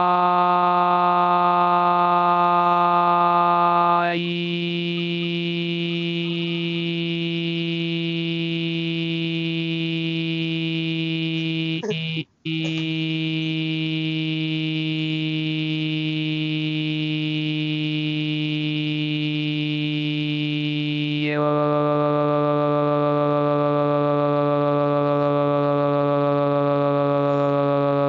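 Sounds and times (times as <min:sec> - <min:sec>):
synthesized voice holding a note: 0:00.0 - 0:28.0.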